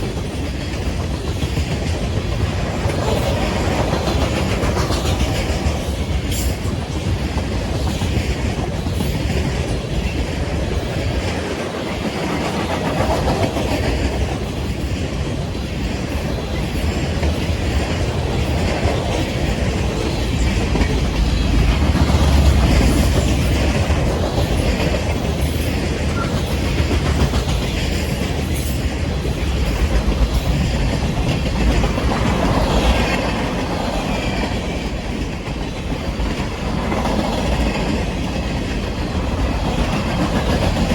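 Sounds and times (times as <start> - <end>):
train cars rumbling past: 0.0 - 40.9
wheels clacking over rail joints: 0.0 - 40.9.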